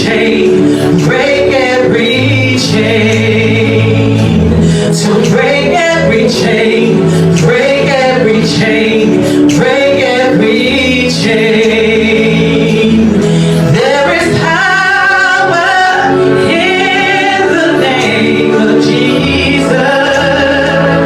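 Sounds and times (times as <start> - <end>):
instrumental backing: 0.0 - 21.0
person singing with vibrato: 0.0 - 21.0.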